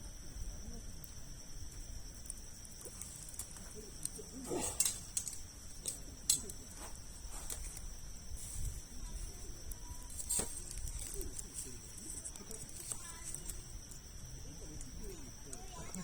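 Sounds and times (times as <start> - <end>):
campfire logs crackling and popping: 1.0 - 16.0.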